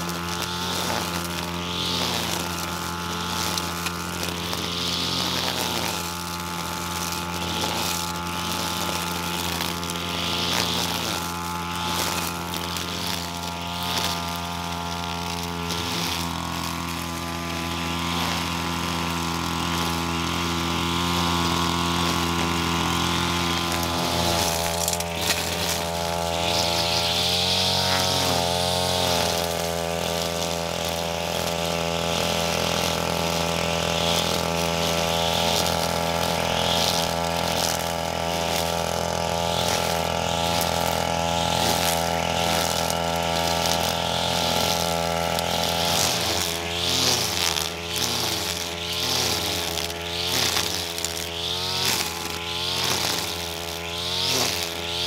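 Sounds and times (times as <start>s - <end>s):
string trimmer engine running: 0.0s - 55.0s
trimmer line slashing grass: 0.0s - 55.0s.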